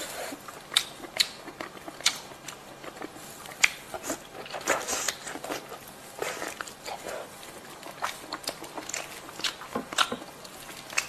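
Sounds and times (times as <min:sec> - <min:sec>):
wet mouth smacks while chewing: 0:00.0 - 0:06.8, 0:07.8 - 0:11.0.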